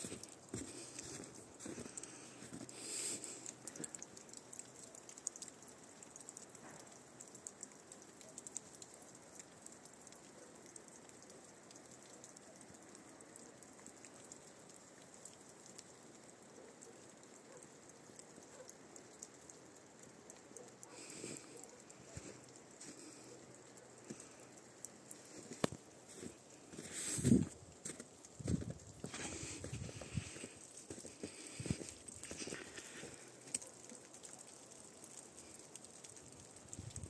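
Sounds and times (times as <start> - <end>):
wet snow pattering: 0.0 - 37.0.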